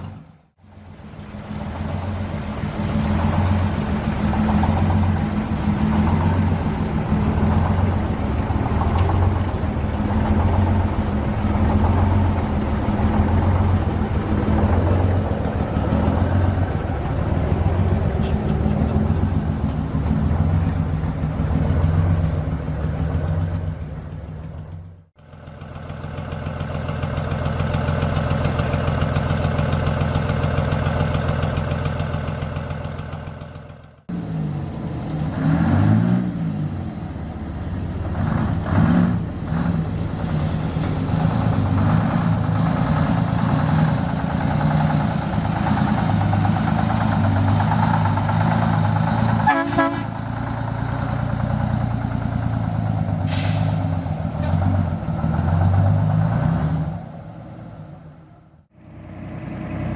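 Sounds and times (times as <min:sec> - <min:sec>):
truck engine revving: 0:00.0 - 0:59.9
truck engine running: 0:00.0 - 0:59.9.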